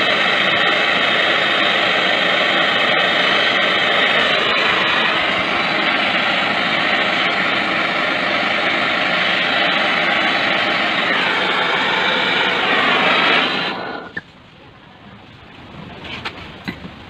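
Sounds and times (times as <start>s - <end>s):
torch flame hissing: 0.0s - 14.2s.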